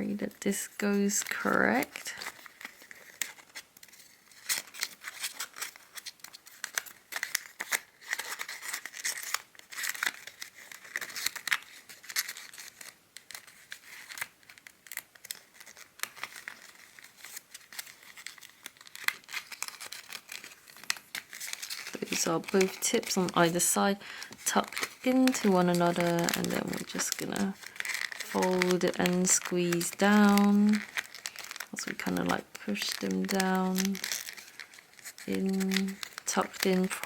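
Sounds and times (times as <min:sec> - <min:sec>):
paper crinkling and rustling: 0:00.2 - 0:37.0.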